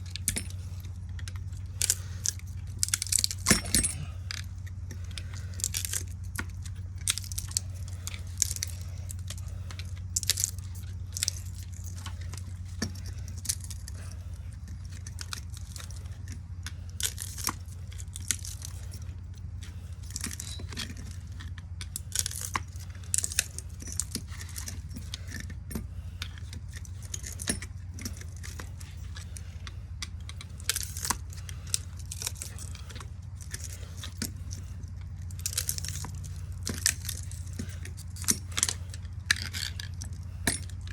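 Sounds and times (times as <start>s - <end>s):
metallic clicks and scrapes: 0.0s - 40.9s
steady low hum: 0.0s - 40.9s.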